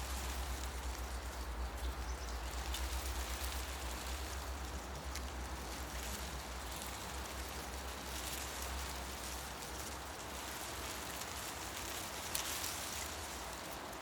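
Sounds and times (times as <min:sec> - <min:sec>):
wind rustling tree leaves: 0:00.0 - 0:14.0.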